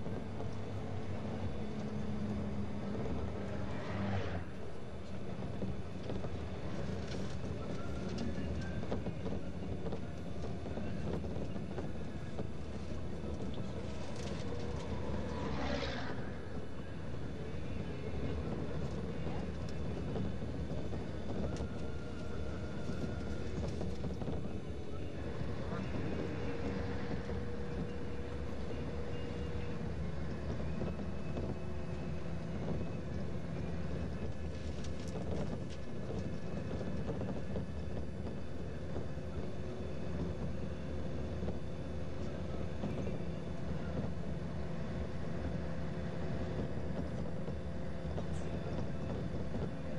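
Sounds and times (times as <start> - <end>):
engine and road rumble: 0.0 - 49.9.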